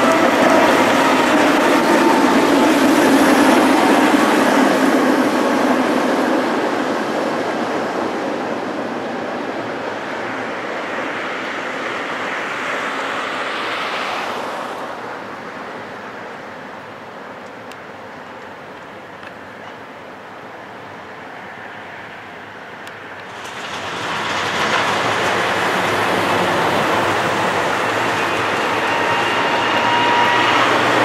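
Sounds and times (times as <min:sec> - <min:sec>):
tram running past on track: 0:00.0 - 0:19.9, 0:21.4 - 0:31.0.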